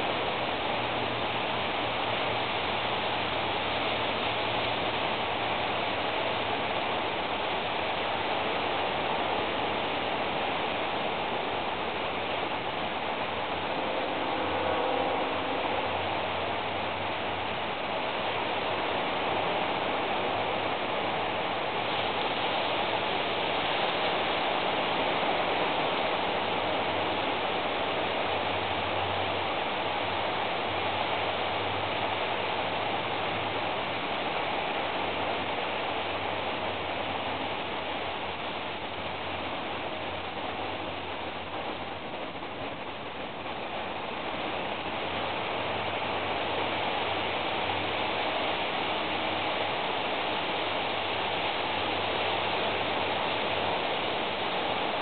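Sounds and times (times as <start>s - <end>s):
faint low hum: 0.0s - 55.0s
steady rushing noise: 0.0s - 55.0s.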